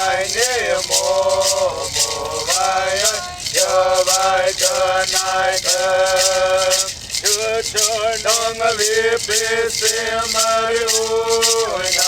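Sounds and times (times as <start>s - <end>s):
hand rattle shaking: 0.0s - 12.0s.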